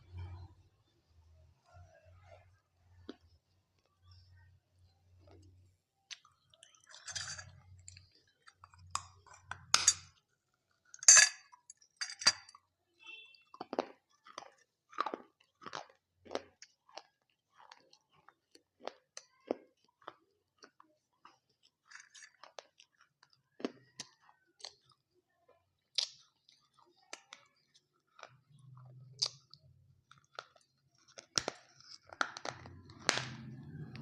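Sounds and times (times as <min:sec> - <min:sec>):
chewing: 0:05.1 - 0:12.7, 0:13.5 - 0:34.0.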